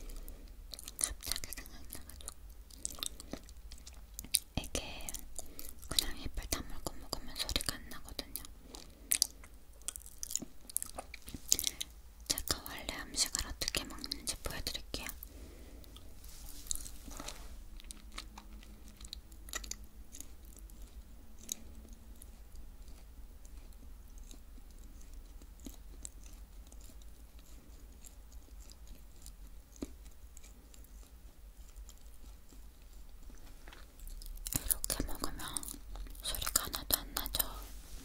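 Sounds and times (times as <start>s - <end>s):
chewing snacks: 0.0s - 37.6s.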